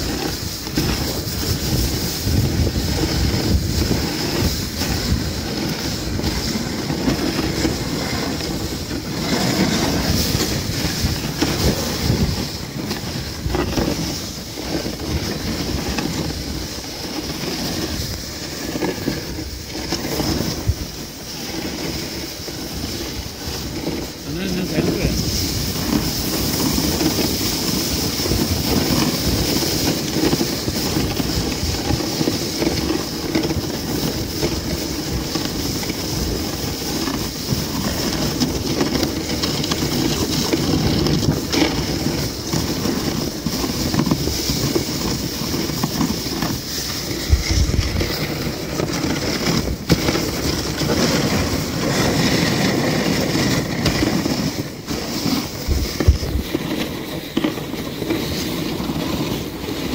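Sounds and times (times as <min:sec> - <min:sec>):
sled knocking and rattling: 0:00.0 - 0:59.9
sled runners hissing on snow: 0:00.0 - 0:59.9.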